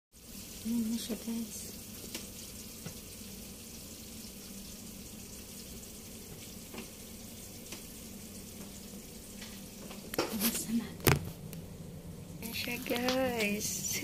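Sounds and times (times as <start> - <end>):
faint sizzling hiss: 0.2 - 14.0
low oven hum: 0.2 - 14.0.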